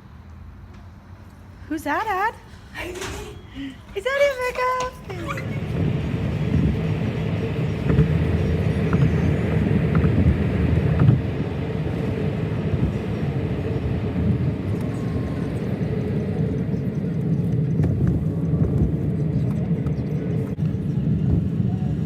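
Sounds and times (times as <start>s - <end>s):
vehicle rumble and road noise: 0.0s - 22.0s.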